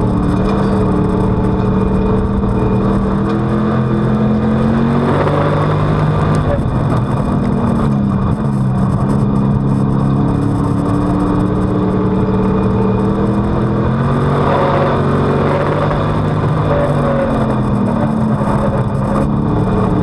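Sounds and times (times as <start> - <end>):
race car engine running hard: 0.0 - 20.0
wind and road noise: 0.0 - 20.0.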